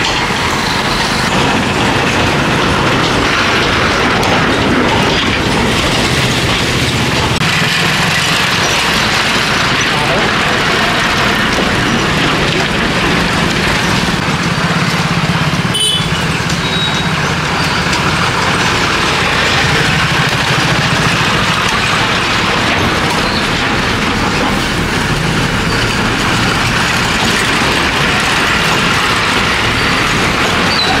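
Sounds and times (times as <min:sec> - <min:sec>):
bus diesel engine hum: 0:00.0 - 0:31.0
road noise: 0:00.0 - 0:31.0.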